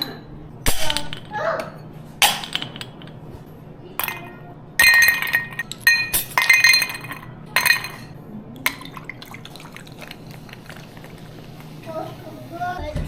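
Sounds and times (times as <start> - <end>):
dishes clinking: 0.0 - 11.7.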